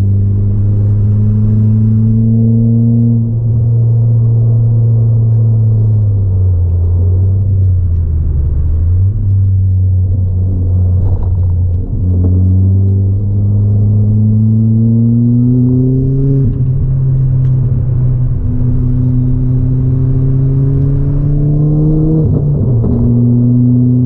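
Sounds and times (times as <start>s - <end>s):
car engine from inside cabin: 0.0s - 24.0s.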